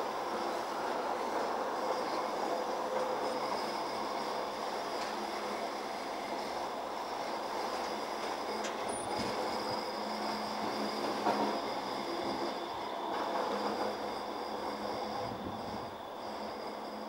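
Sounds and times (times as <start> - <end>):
tram wheels rolling on rails: 0.0 - 17.0.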